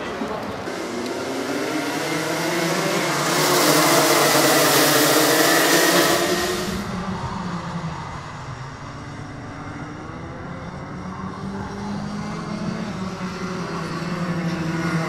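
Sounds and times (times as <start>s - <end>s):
racing karts accelerating: 0.0s - 15.0s.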